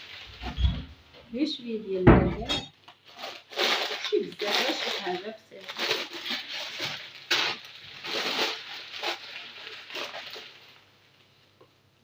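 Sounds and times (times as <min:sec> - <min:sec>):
plastic bags rustling: 0:00.0 - 0:01.7, 0:02.4 - 0:11.2.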